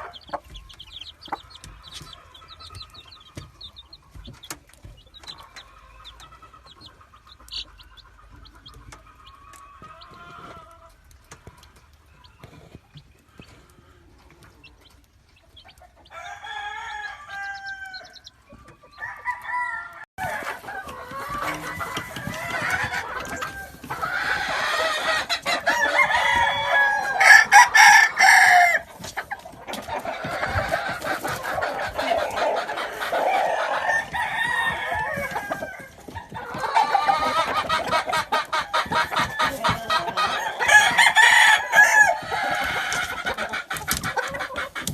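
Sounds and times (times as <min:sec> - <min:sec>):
roosters crowing and clucking: 0:00.0 - 0:44.9.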